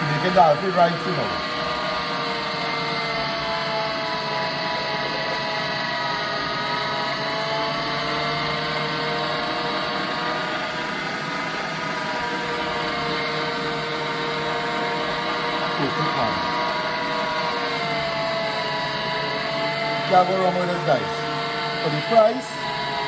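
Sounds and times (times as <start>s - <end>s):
electric meat grinder running: 0.0s - 23.0s.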